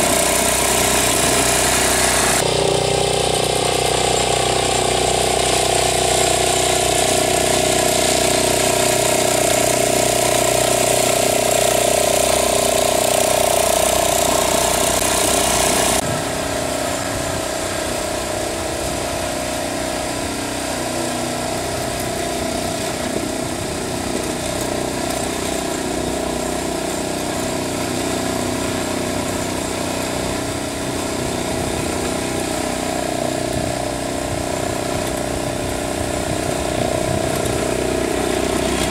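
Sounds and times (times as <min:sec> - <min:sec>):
lawn tractor engine running: 0:00.0 - 0:38.9.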